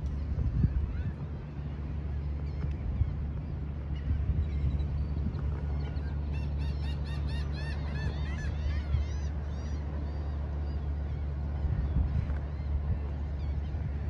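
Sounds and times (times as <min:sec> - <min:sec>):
wind buffeting microphone: 0:00.0 - 0:06.3, 0:07.8 - 0:14.0.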